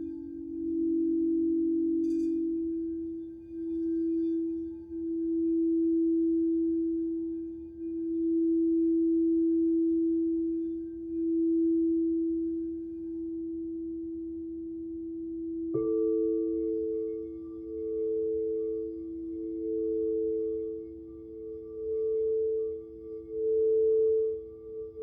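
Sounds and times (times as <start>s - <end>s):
crystal singing bowl tone: 0.0s - 25.0s.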